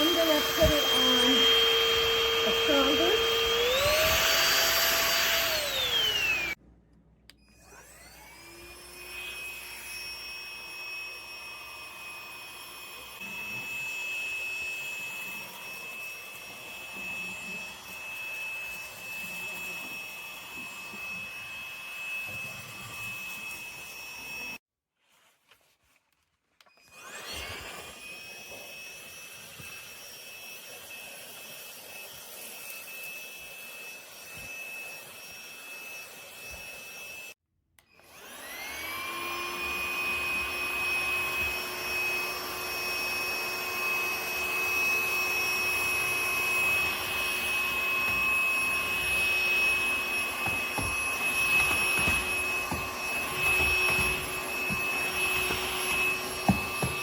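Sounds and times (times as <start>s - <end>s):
stick vacuum motor whining: 0.0s - 6.6s, 7.3s - 24.6s, 26.6s - 57.0s.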